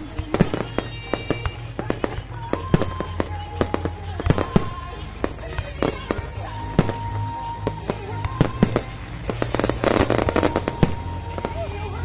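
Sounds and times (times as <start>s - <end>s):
background music with held notes: 0.0s - 12.0s
fireworks popping and banging: 0.0s - 12.0s
rapid fireworks crackling: 0.0s - 12.0s.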